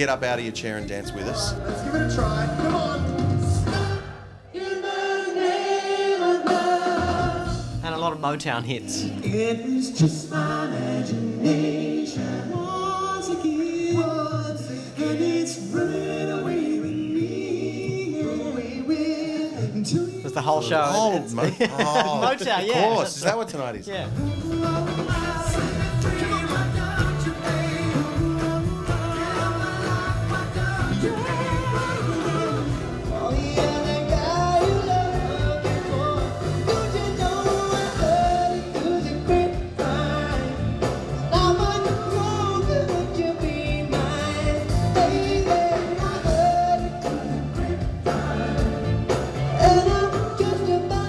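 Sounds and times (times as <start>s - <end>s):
backing band: 0.0s - 51.0s
male vocal group singing: 0.0s - 51.0s.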